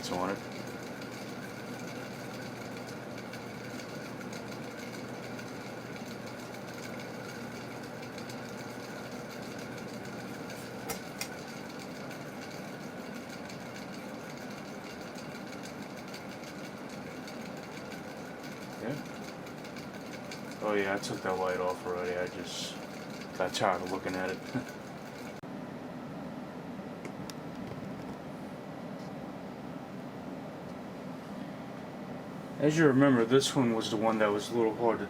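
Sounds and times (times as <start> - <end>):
ceiling fan motor running: 0.0 - 35.0
noisy fan bearings: 0.0 - 35.0.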